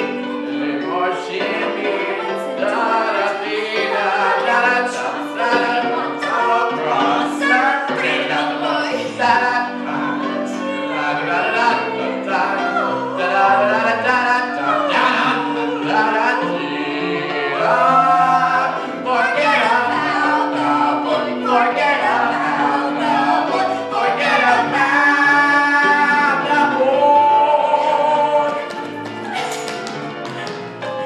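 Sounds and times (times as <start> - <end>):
group singing show tune: 0.0 - 31.0
instrumental accompaniment: 0.0 - 31.0.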